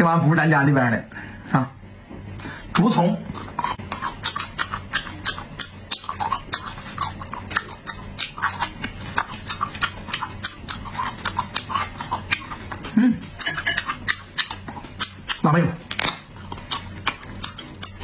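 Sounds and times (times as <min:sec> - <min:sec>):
person chewing and lip-smacking: 0:02.4 - 0:18.0.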